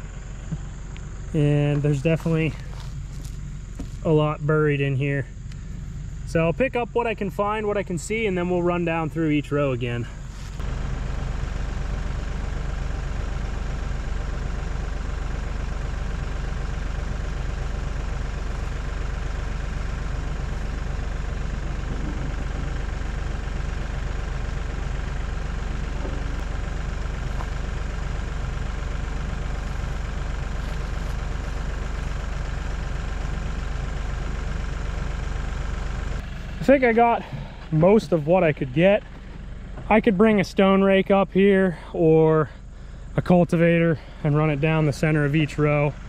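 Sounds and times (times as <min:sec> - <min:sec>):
tractor engine idling: 0:00.0 - 0:46.0.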